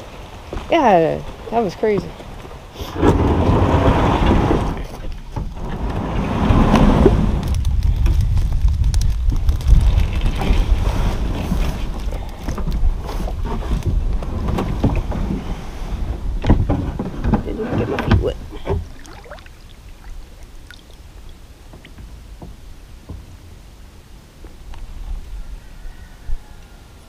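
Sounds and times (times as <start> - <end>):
wind buffeting microphone: 0.0 - 23.2
knocks and rustles in plastic boat: 0.0 - 23.6.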